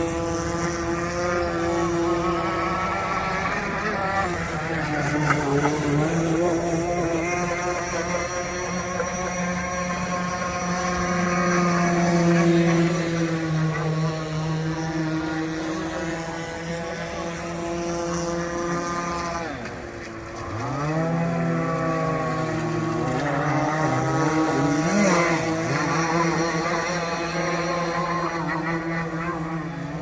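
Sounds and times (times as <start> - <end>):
model boat motor running: 0.0 - 30.0.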